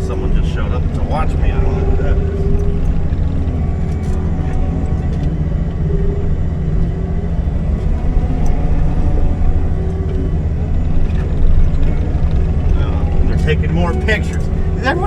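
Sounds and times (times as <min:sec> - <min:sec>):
excavator diesel engine droning: 0:00.0 - 0:15.0
higher steady tone: 0:00.0 - 0:15.0.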